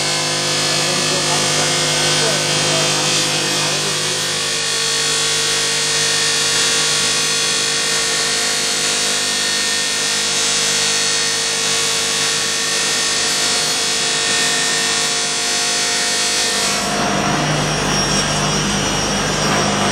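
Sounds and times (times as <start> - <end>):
power sander grinding metal: 0.0 - 19.9.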